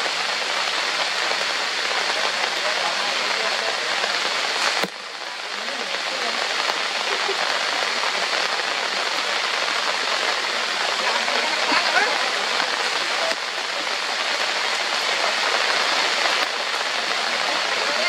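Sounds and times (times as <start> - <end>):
heavy rain on leaves: 0.0 - 18.0.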